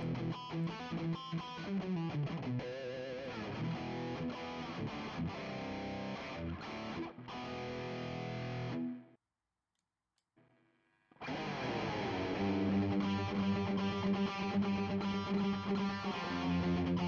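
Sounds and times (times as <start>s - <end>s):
distorted electric guitar: 0.0s - 9.0s, 11.2s - 17.0s.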